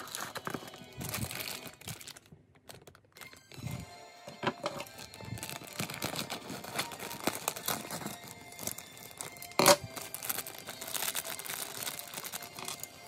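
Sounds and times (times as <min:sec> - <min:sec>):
plastic bags crinkling: 0:00.0 - 0:13.0
sharp plastic crackle: 0:00.0 - 0:13.0.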